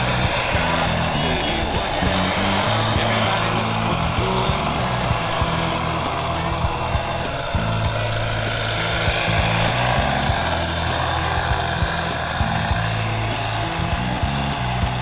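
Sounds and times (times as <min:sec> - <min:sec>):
engine-like running noise: 0:00.0 - 0:15.0
rock music with bass and beat: 0:00.0 - 0:15.0.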